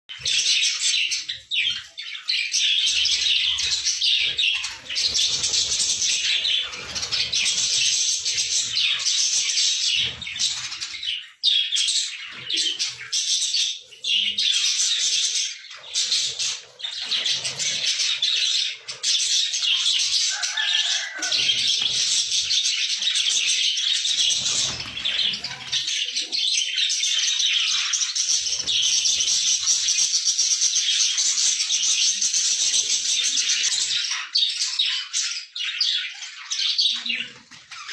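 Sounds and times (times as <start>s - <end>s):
budgerigar chicks chirping: 0.1s - 37.9s.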